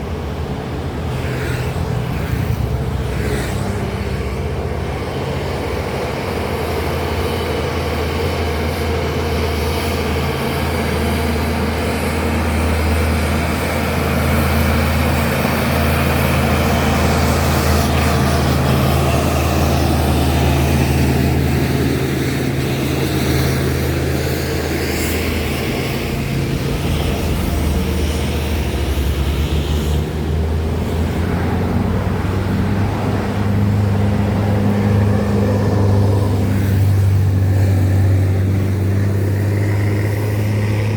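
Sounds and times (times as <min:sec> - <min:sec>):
another engine: 0:00.0 - 0:40.9
diesel truck engine under load: 0:00.0 - 0:40.9
tyre and traffic noise: 0:00.0 - 0:40.9.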